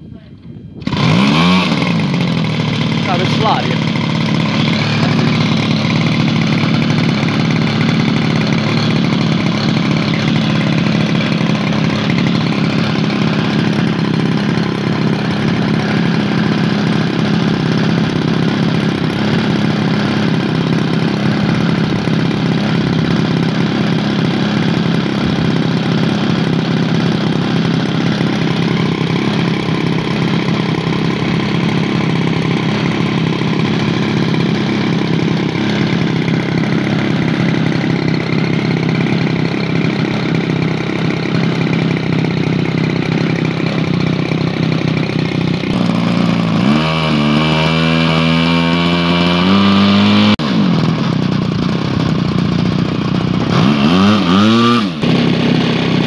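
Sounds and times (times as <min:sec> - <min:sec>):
model airplane engine running: 0:00.0 - 0:56.0.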